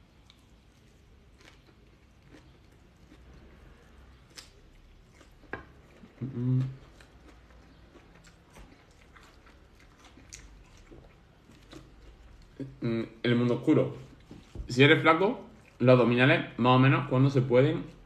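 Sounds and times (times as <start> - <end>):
man chewing food: 0.0 - 13.2, 13.9 - 15.8.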